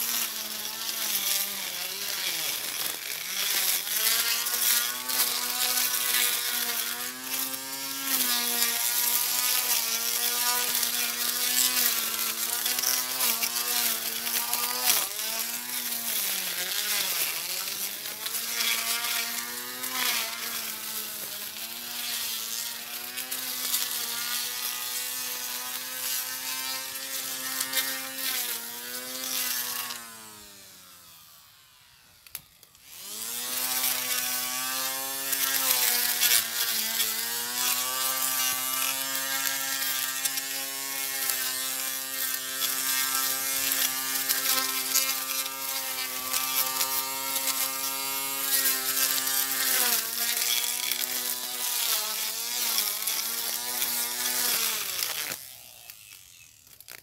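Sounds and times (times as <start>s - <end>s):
grass cutter motor whining: 0.0s - 57.0s.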